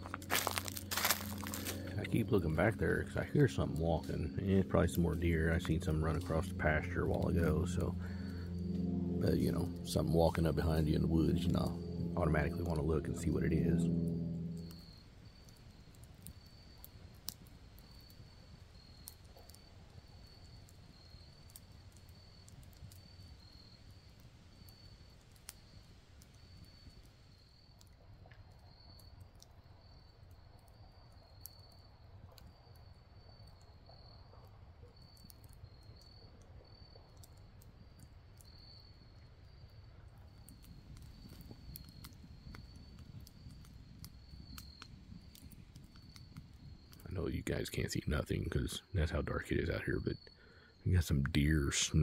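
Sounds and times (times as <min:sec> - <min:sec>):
campfire crackling: 0:00.0 - 0:52.0
cricket chirping: 0:00.0 - 0:52.0.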